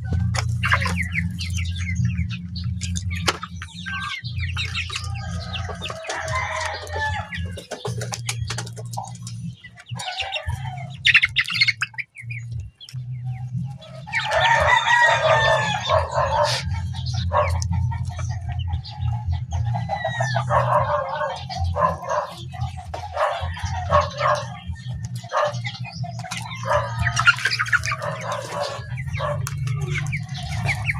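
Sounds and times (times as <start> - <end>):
chicks clucking and cheeping: 0.0 - 30.9.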